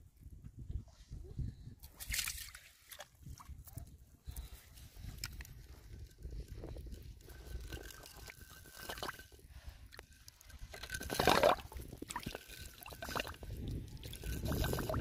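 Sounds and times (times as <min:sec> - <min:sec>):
pond water sloshing and dripping: 0:01.8 - 0:15.0.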